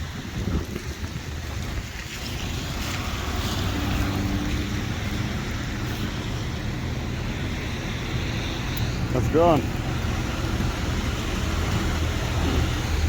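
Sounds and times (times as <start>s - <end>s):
faint vehicle hum: 0.0s - 13.0s
rain hiss: 0.0s - 13.0s
tyres on wet road: 0.0s - 13.0s
wind buffeting microphone: 0.0s - 13.0s.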